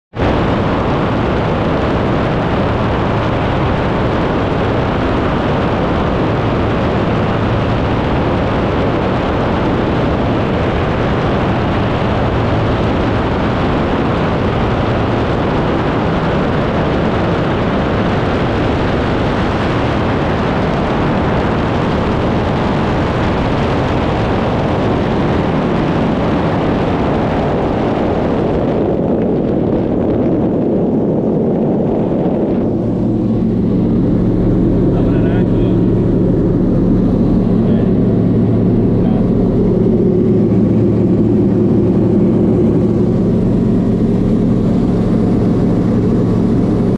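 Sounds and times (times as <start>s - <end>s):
light aircraft engine droning: 0.1s - 46.9s.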